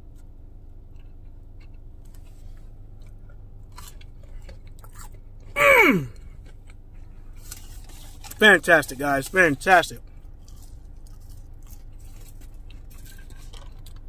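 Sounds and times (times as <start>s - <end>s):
low steady hum: 0.0s - 14.0s
person chewing crunchy food: 0.8s - 8.4s, 9.1s - 14.0s.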